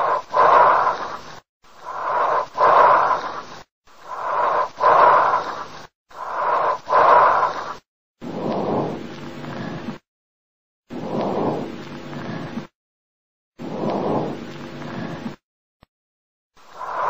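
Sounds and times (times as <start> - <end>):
breathing in and out: 0.0 - 10.0, 10.9 - 12.7, 13.6 - 15.4, 16.6 - 17.0.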